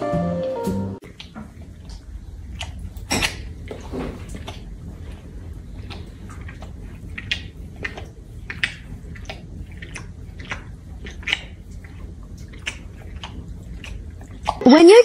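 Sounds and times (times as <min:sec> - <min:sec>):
low steady hum: 0:00.0 - 0:15.0
pet licking and nibbling fur: 0:01.0 - 0:15.0.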